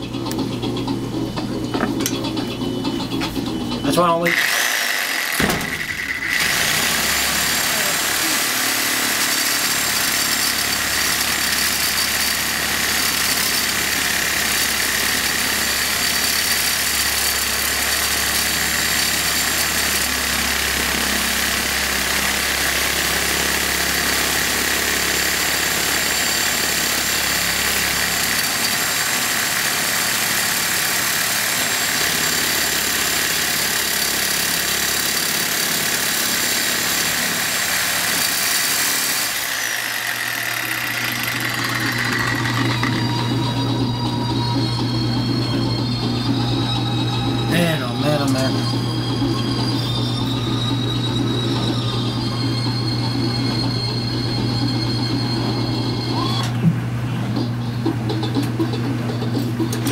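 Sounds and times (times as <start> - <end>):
electric saw cutting metal: 3.9 - 56.5.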